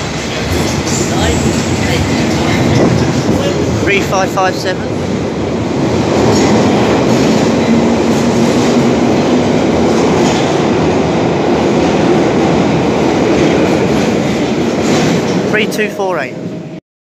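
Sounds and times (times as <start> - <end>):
train rumbling past in tunnel: 0.0 - 16.8.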